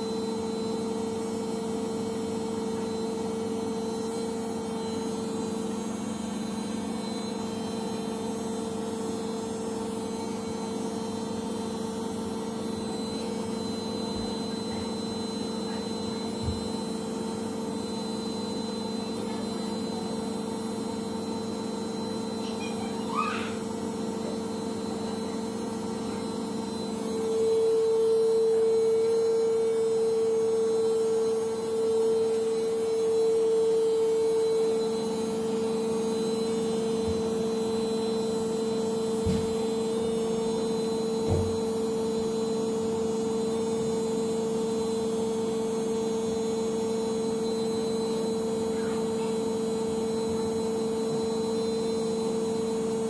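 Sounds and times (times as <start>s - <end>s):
washing machine spinning: 0.0s - 53.0s.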